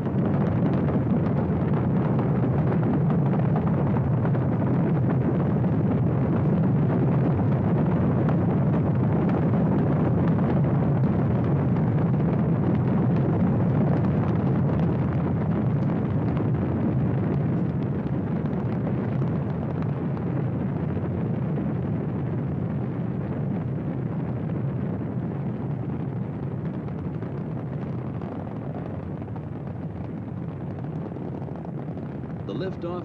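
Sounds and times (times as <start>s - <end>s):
rocket engines deep rumbling: 0.0s - 33.0s.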